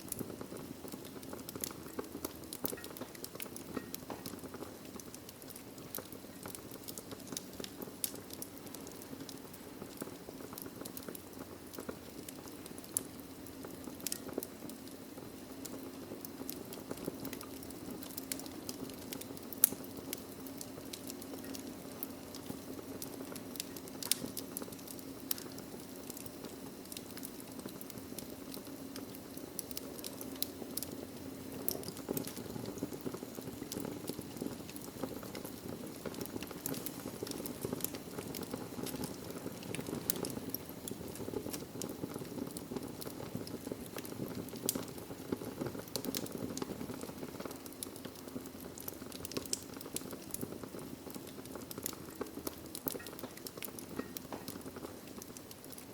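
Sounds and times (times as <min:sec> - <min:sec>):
logs crackling and popping: 0:00.0 - 0:55.9
low rush of flame: 0:00.0 - 0:55.9.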